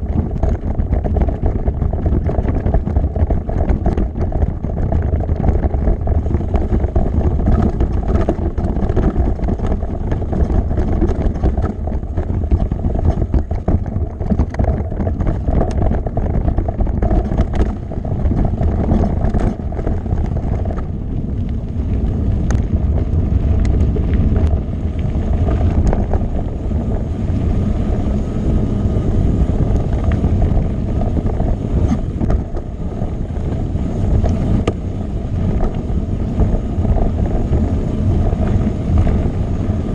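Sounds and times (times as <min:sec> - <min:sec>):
bike rattling and clicking: 0:00.0 - 0:39.9
wind on microphone: 0:00.0 - 0:39.9.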